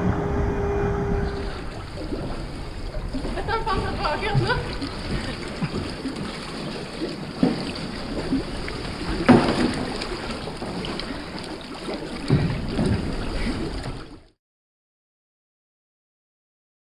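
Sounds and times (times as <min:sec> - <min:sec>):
water splashing around kayak: 0:00.0 - 0:14.4.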